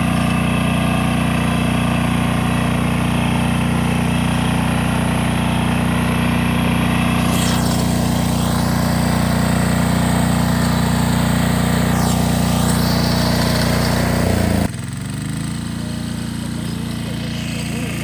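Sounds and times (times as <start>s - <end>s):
small tractor engine running: 0.0s - 18.0s.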